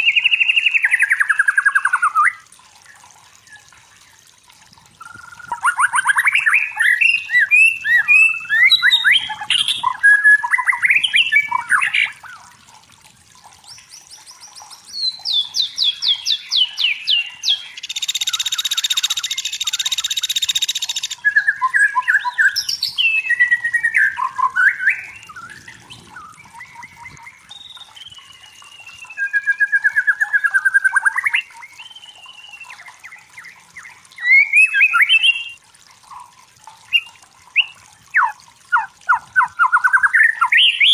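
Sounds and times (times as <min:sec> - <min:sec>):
songbird singing varied phrases: 0:05.0 - 0:12.5, 0:13.7 - 0:35.6, 0:36.9 - 0:40.9.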